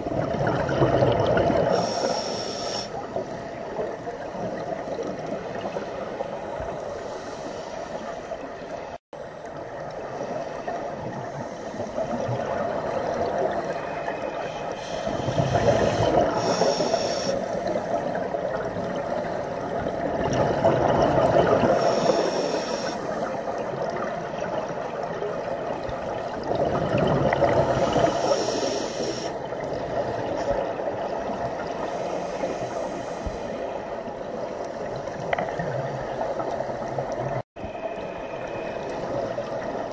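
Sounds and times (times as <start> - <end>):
underwater bubbling hiss: 0.0 - 39.9.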